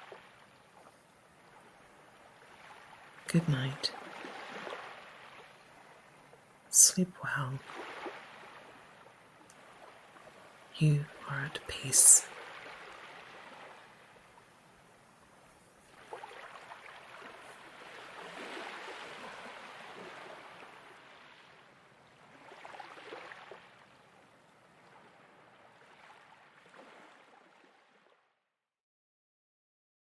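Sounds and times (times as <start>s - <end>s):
gentle ocean waves washing in: 0.0s - 28.3s.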